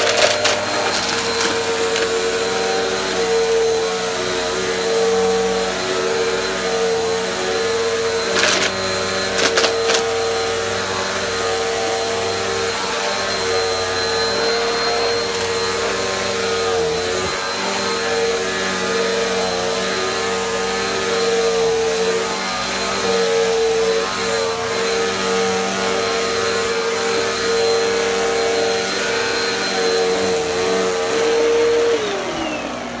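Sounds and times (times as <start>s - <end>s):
vacuum cleaner motor whine: 0.0s - 33.0s.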